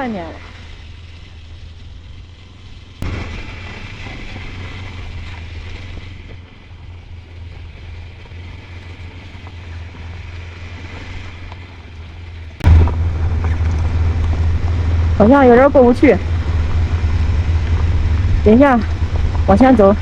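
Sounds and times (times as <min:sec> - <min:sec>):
motorcycle engine and wind rumble: 0:00.0 - 0:20.0.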